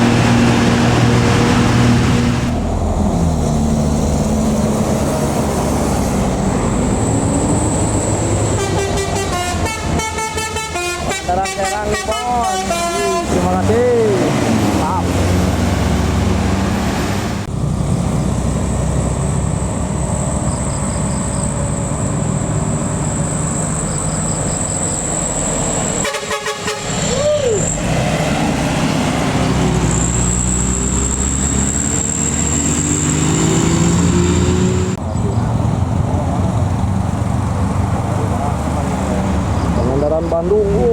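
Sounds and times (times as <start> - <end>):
high engine whine: 0.0 - 10.0, 12.7 - 40.9
diesel engines labouring uphill: 0.0 - 40.9.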